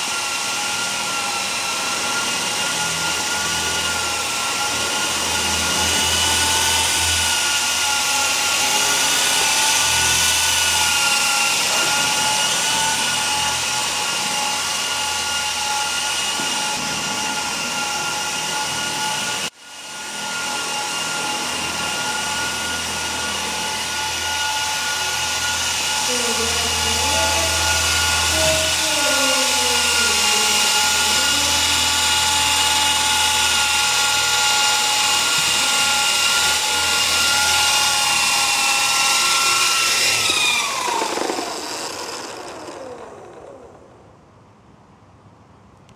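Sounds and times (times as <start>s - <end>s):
rc helicopter whine: 0.0s - 44.3s.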